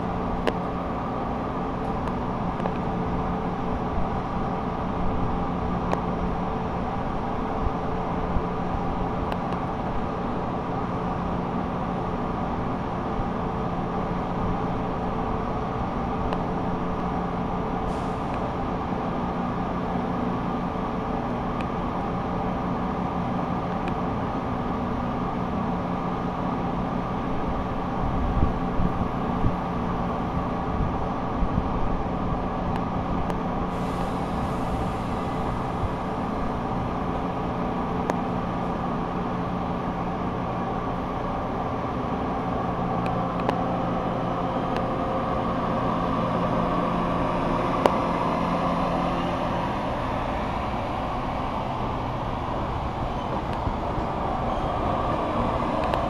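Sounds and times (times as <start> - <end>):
train equipment drone: 0.0 - 56.0.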